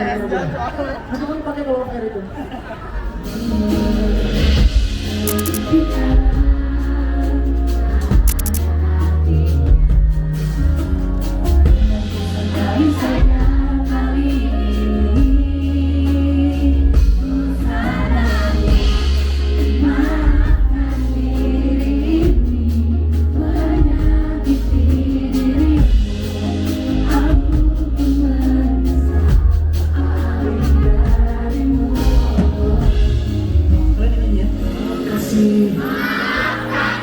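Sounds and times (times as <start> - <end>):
band accompaniment: 3.0 - 37.0
person singing: 3.3 - 37.0.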